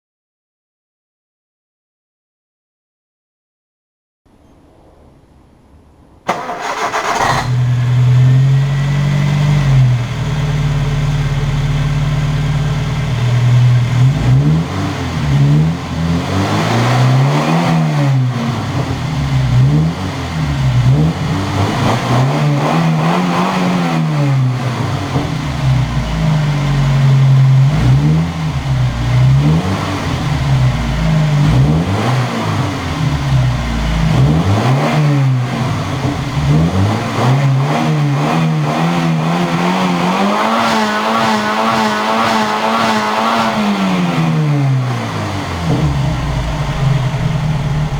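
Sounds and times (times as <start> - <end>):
car engine revving: 6.3 - 47.9
car engine starting and idling: 6.3 - 47.9.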